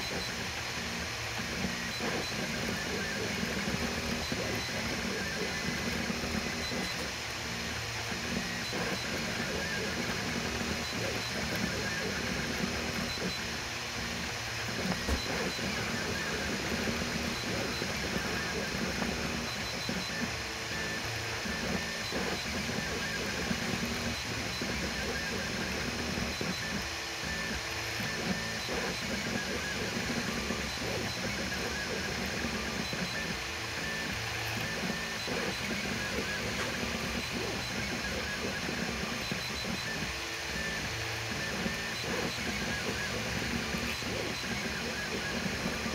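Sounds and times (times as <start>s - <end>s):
cooling fans whirring: 0.0s - 45.9s
stepper motors whining: 0.0s - 45.9s.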